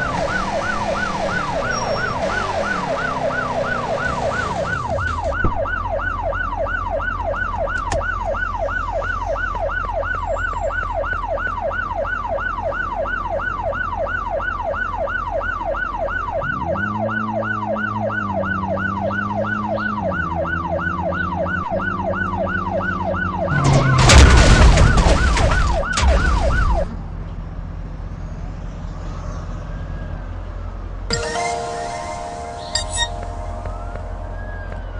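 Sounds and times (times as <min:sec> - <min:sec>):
siren yelping: 0:00.0 - 0:24.0, 0:24.7 - 0:26.9, 0:31.1 - 0:34.9.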